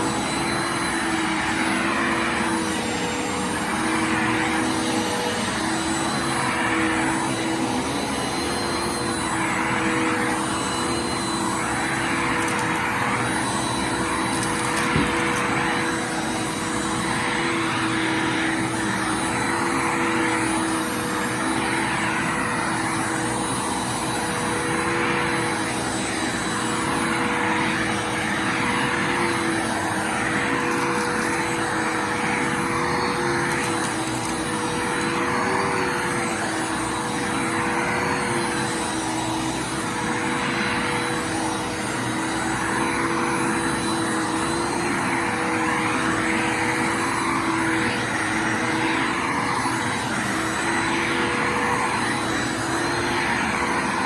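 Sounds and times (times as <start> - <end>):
vacuum cleaner running: 0.0 - 54.0
vacuum airflow rushing: 9.3 - 54.0.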